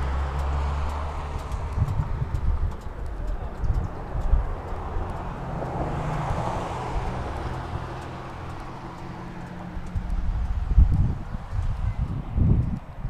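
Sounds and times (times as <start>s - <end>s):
car passing: 0.0s - 13.0s
steady low rumble: 0.0s - 13.0s.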